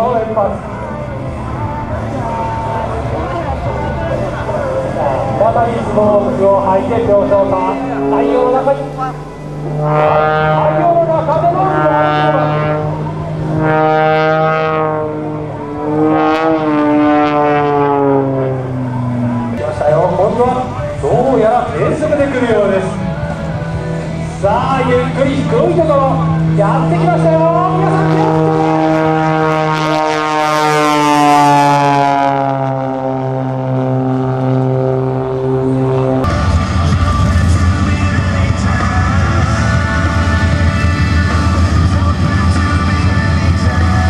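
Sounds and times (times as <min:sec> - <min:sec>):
propeller plane engine droning: 0:00.0 - 0:44.0.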